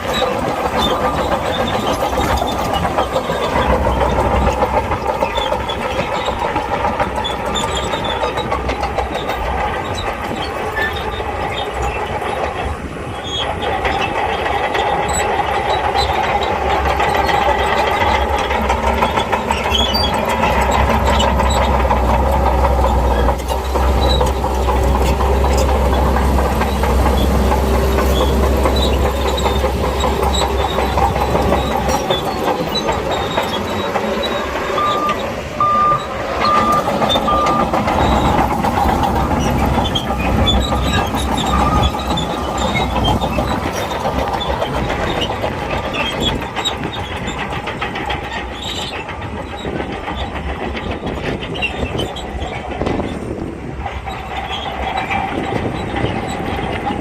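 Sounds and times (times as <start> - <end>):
bulldozer diesel engine rumbling: 0.0 - 57.0
steel tracks clattering: 0.0 - 57.0.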